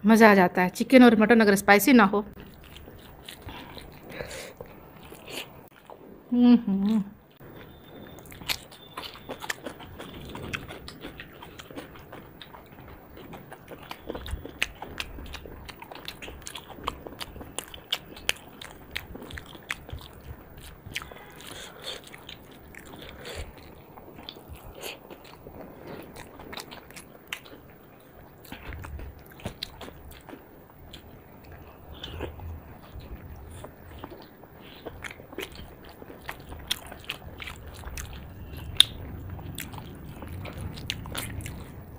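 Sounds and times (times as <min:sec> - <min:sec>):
people chewing food: 0:02.3 - 0:41.9.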